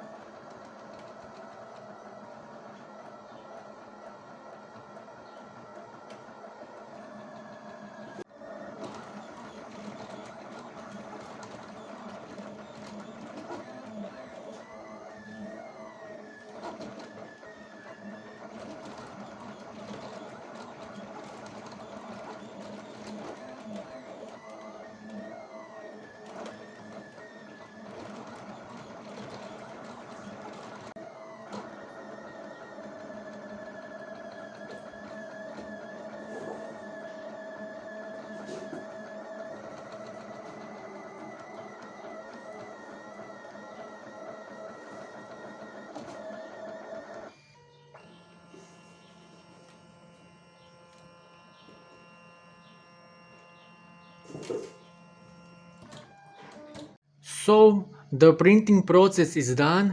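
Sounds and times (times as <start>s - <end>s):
stepper motors whining: 4.6s - 58.1s.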